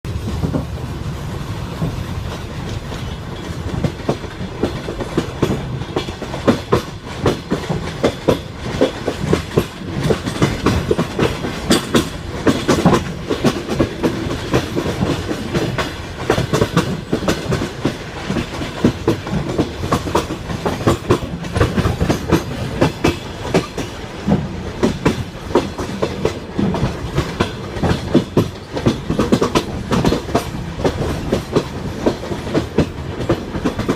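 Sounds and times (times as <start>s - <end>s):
train wheels clattering: 0.1s - 33.9s.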